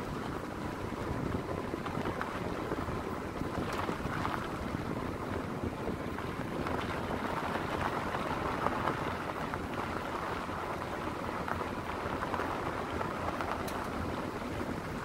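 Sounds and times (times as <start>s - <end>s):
gravel crackling under tyres: 0.0s - 15.0s
tyre and road noise: 0.0s - 15.0s.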